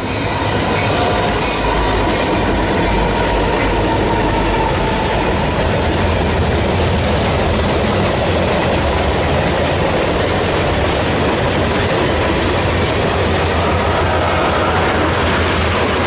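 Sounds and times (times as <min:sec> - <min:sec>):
freight train rolling past: 0:00.0 - 0:16.0
steel wheels on rail: 0:00.0 - 0:16.0.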